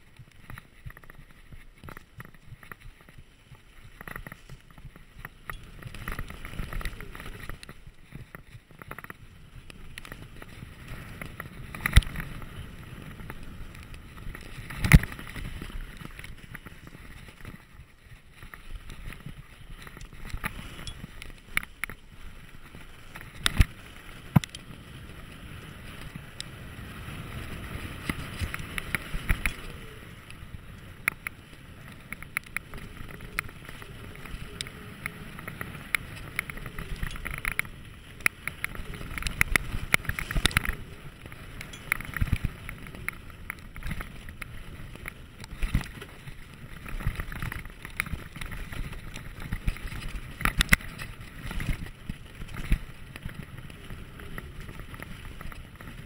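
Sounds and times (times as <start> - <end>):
bike rattling over bumps: 0.0 - 56.0
bike tyres rumbling on dirt: 0.0 - 56.0.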